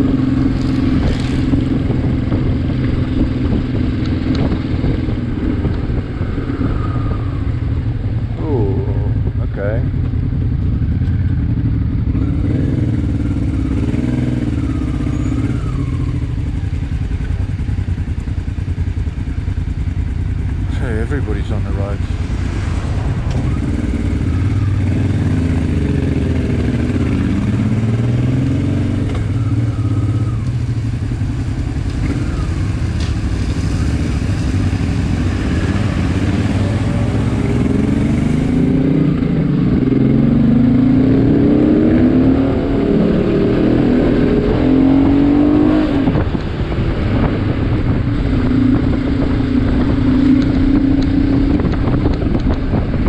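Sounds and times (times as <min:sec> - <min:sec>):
motorcycle engine revving: 0:00.0 - 0:53.0
road and wind noise: 0:00.0 - 0:53.0.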